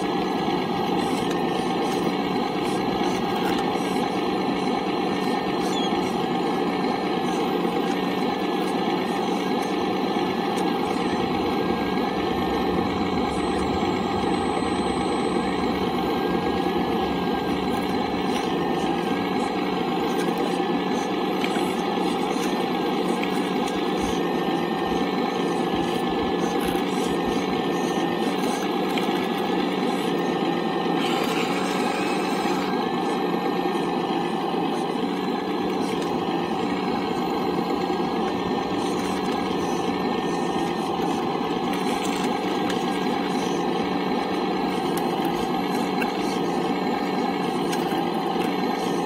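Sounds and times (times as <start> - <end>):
hydraulic pump whine: 0.0 - 49.0.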